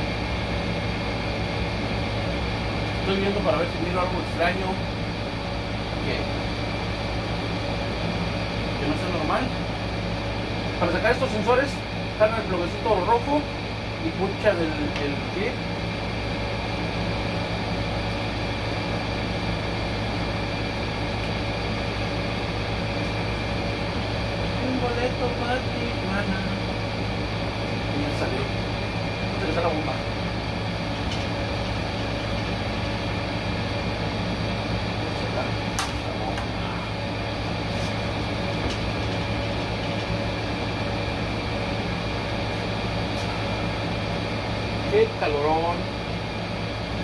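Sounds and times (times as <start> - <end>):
shop machinery humming: 0.0 - 47.0.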